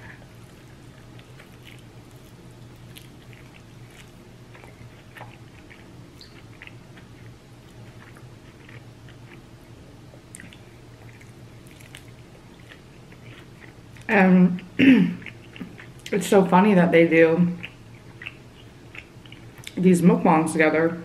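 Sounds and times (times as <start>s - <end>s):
person chewing food: 0.0s - 14.1s, 15.1s - 16.1s, 17.6s - 19.8s
steady low hum: 0.0s - 21.0s.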